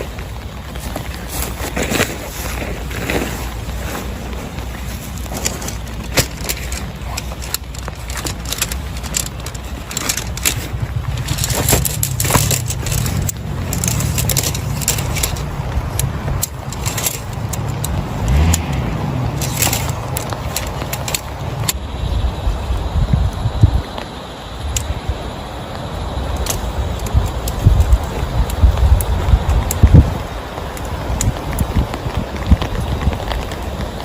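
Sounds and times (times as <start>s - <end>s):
heavy rain: 0.0s - 34.0s
low rain rumble: 0.0s - 34.0s
raindrops ticking on surfaces: 0.0s - 34.0s.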